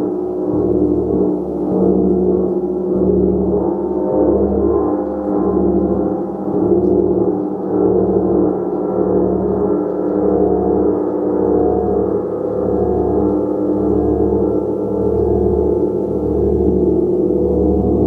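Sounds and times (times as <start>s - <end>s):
gong played softly: 0.0s - 18.0s.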